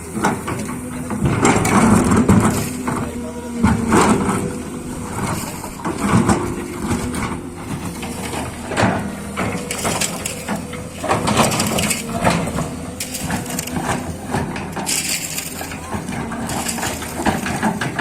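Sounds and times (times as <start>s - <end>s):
crunching and knocking: 0.0s - 18.0s
excavator hum: 0.0s - 18.0s.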